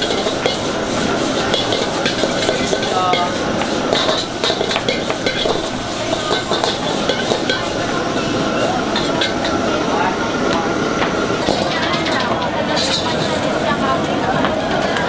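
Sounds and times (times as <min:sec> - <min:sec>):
metal ladle scraping wok: 0:00.0 - 0:13.8
food sizzling: 0:00.0 - 0:15.0
gas flame: 0:00.0 - 0:15.0.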